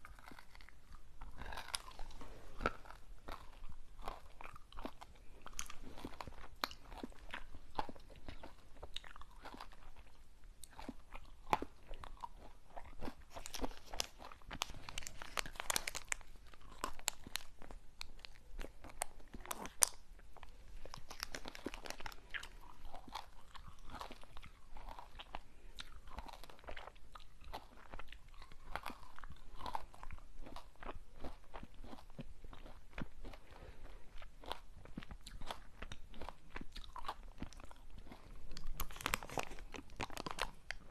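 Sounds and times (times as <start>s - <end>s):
crunching and chewing sweets: 0.0s - 40.9s.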